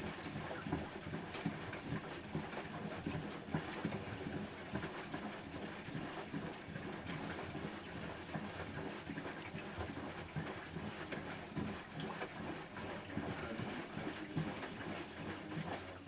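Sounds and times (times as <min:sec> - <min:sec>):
water and laundry sloshing: 0:00.0 - 0:16.0.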